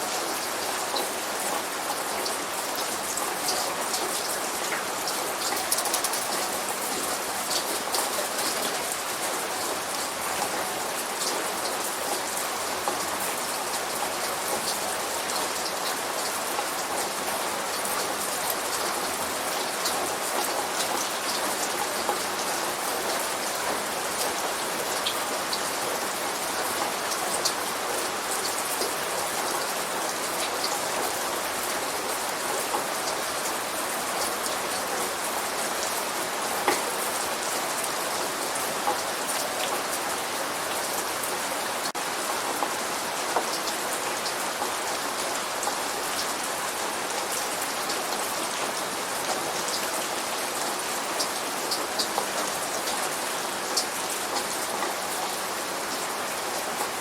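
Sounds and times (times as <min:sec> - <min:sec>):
light rain falling: 0:00.0 - 0:57.0
raindrops ticking on a surface: 0:00.0 - 0:57.0.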